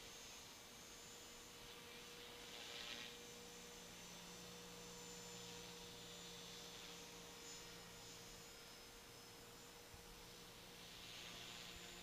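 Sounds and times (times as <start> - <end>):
rc helicopter whine: 0.0 - 12.0.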